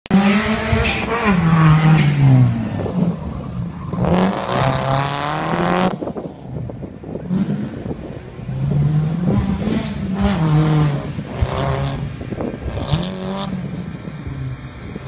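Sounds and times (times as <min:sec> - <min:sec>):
rally car engine revving: 0:00.1 - 0:15.0.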